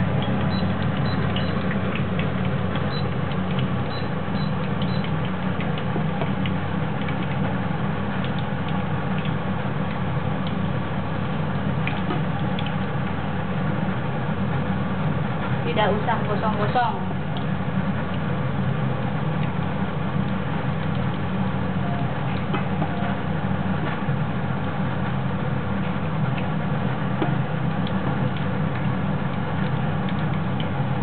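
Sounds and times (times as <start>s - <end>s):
oil crackling and popping: 0.0s - 15.6s, 17.2s - 31.0s
fritters frying in hot oil: 0.0s - 31.0s
steady low hum: 0.0s - 31.0s.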